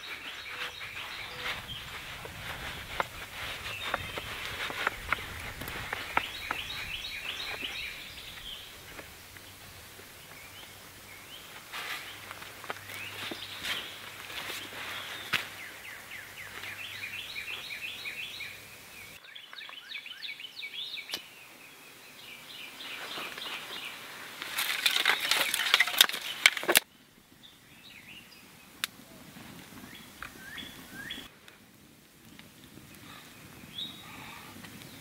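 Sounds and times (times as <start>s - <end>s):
fire crackling: 0.0s - 19.2s, 22.6s - 35.0s
small birds chirping: 0.0s - 29.0s, 29.8s - 31.3s, 33.0s - 35.0s.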